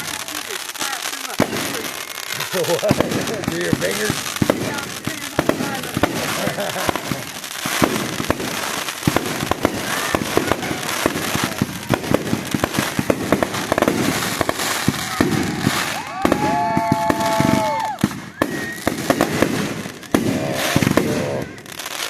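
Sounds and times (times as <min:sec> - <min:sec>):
fireworks bangs and pops: 0:00.0 - 0:22.0
fireworks crackling: 0:00.0 - 0:22.0.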